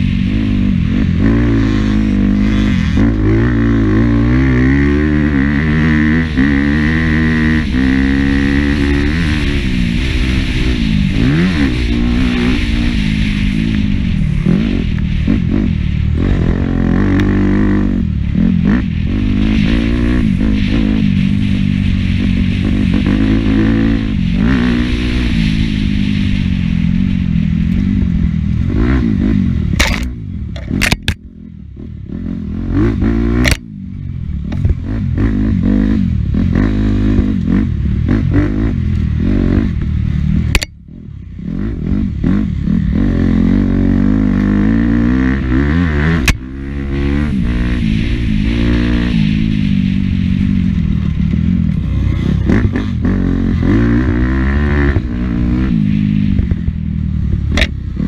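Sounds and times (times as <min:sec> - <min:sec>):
dirt bike engine revving: 0:00.0 - 0:33.8, 0:34.5 - 0:58.0.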